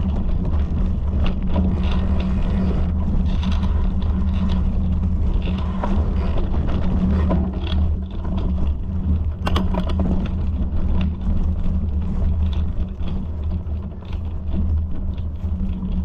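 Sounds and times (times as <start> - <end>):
low rumble: 0.0 - 16.0
rattles and knocks: 3.0 - 16.0.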